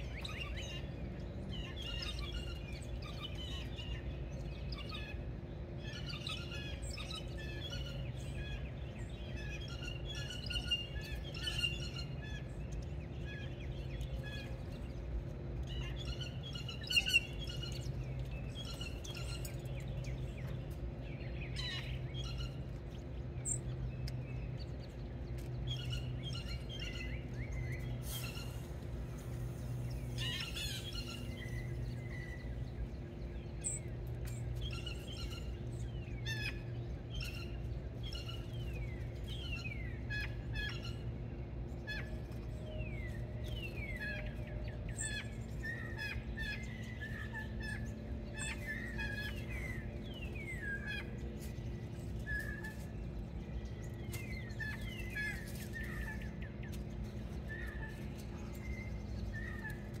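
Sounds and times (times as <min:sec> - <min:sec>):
songbirds chirping: 0:00.0 - 1:00.0
steady low hum: 0:00.0 - 1:00.0.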